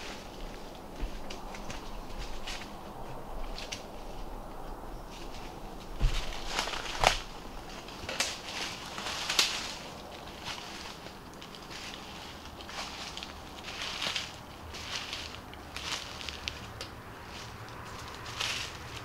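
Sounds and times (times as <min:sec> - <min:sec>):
light crackles and rustles: 0:00.0 - 0:19.0.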